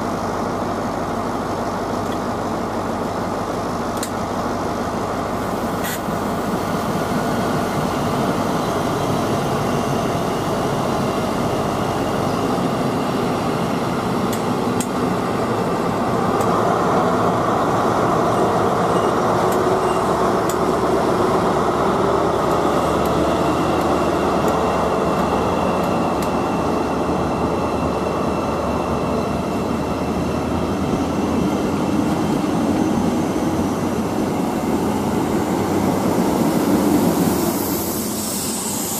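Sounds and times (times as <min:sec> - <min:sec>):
train coaches rolling on rails: 0:00.0 - 0:38.9
train diesel engine running: 0:00.0 - 0:38.9.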